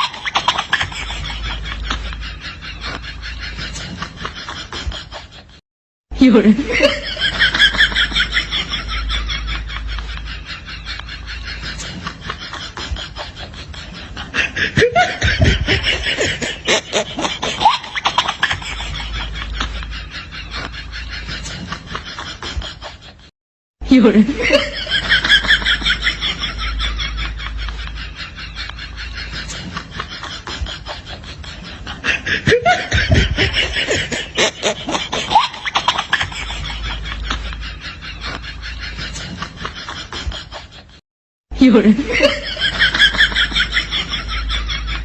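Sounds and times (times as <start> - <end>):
person laughing: 0.0 - 5.6, 6.2 - 41.0, 41.6 - 45.0.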